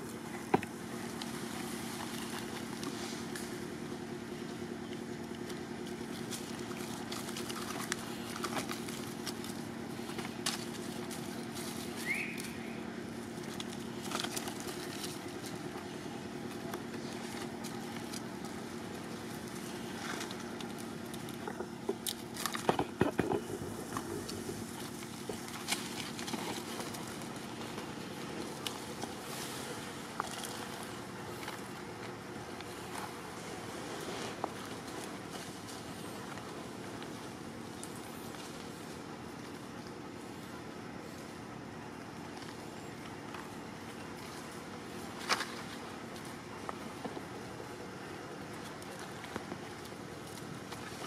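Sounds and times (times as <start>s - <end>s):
dry leaves crackling and rustling: 0.0s - 51.0s
low hum: 0.0s - 51.0s.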